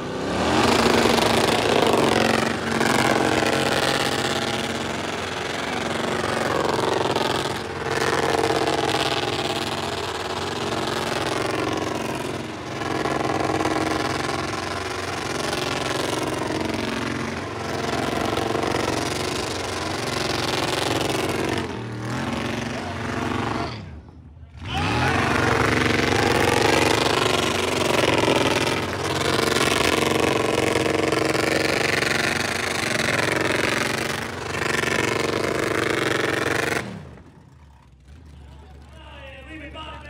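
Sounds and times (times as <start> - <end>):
car engine revving high: 0.0 - 24.0, 24.6 - 37.2.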